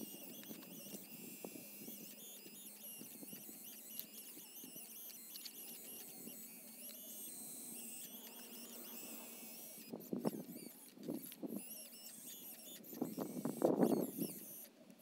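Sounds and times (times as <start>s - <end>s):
hydraulic pump whining: 0.0s - 14.7s.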